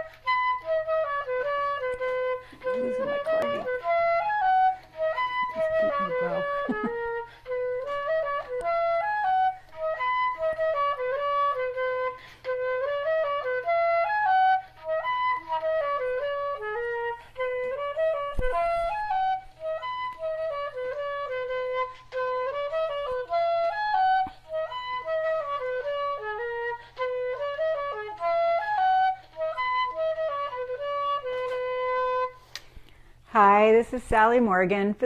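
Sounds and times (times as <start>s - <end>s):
solo flute melody: 0.0s - 32.8s.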